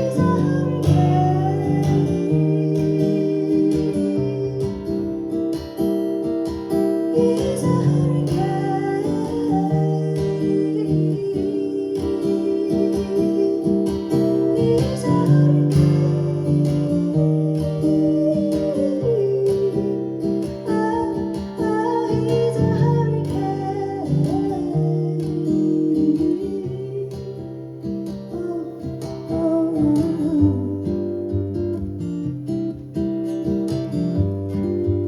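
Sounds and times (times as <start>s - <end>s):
woman singing: 0.0s - 32.4s
acoustic guitar: 0.0s - 35.0s.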